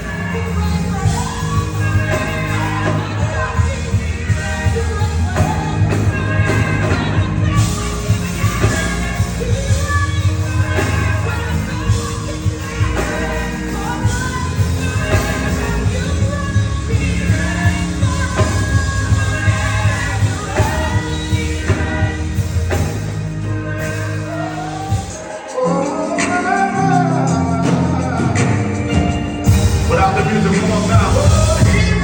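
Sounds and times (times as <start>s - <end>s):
live gospel music with singing: 0.0s - 32.0s.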